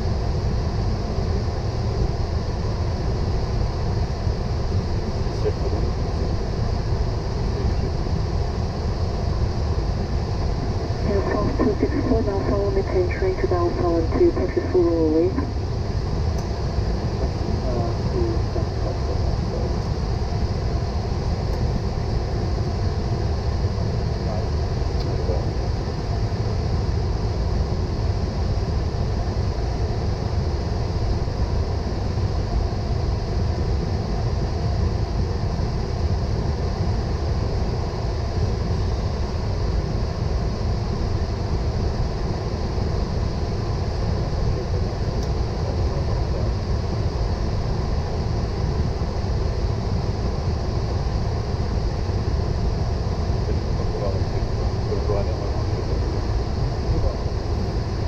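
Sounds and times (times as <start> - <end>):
aircraft cabin low rumble: 0.0 - 58.0.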